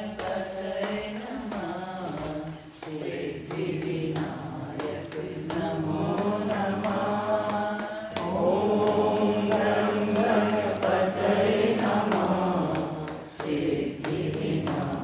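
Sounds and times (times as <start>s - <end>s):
sharp percussion beats: 0.0s - 15.0s
voices singing devotional song: 0.0s - 15.0s.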